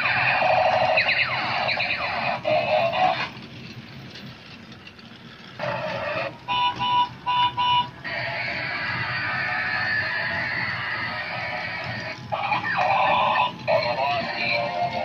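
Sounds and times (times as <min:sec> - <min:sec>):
toy electronic sound effects: 0:00.0 - 0:03.3, 0:05.6 - 0:15.0
faint whirring: 0:00.0 - 0:15.0.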